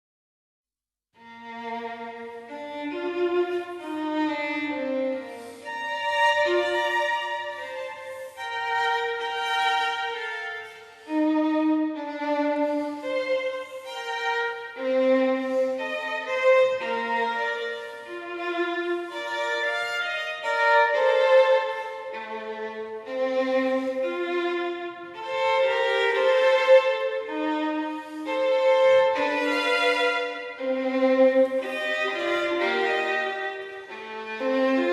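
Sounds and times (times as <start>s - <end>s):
slow violin-led string melody: 1.2s - 34.9s.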